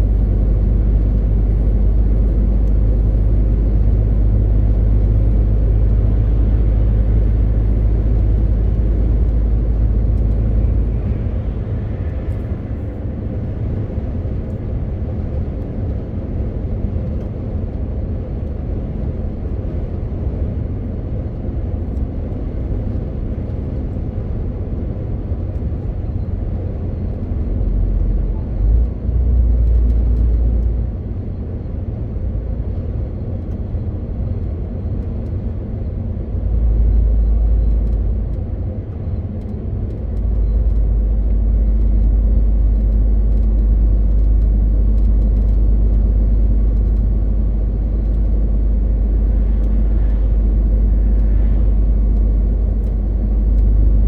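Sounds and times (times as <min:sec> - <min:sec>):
diesel truck engine running: 0:00.0 - 0:54.0
road and tyre noise: 0:00.0 - 0:54.0.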